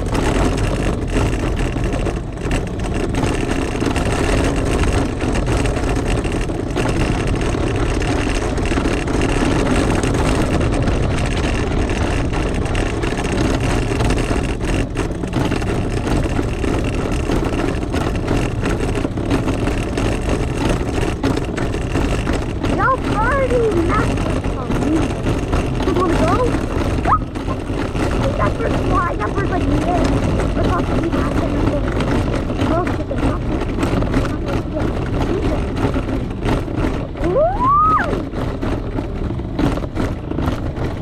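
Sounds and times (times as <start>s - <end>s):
atv engine droning: 0.0s - 41.0s.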